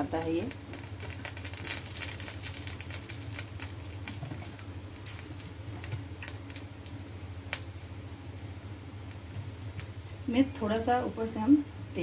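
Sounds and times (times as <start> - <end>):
batter crackling on a griddle: 0.0 - 12.0.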